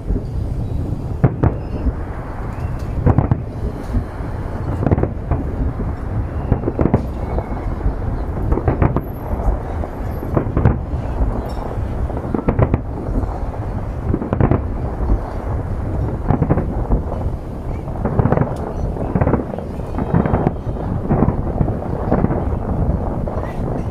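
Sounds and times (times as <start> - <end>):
firework shells bursting: 0.0 - 23.9
low rumble of explosions: 0.0 - 23.9.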